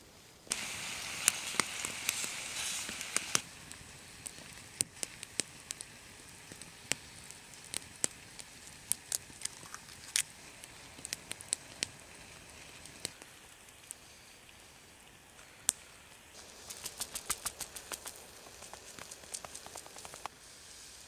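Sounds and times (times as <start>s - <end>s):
faint steady hiss: 0.0s - 21.0s
campfire crackling and popping: 0.4s - 21.0s.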